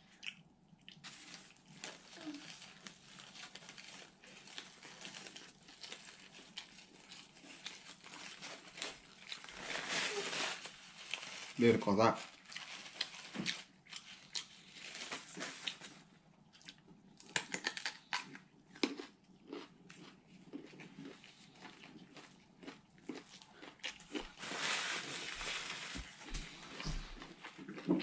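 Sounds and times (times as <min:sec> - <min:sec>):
person chewing food: 0:00.0 - 0:09.6, 0:12.4 - 0:24.5, 0:26.2 - 0:28.0
food crunching: 0:00.1 - 0:09.7, 0:12.3 - 0:28.0.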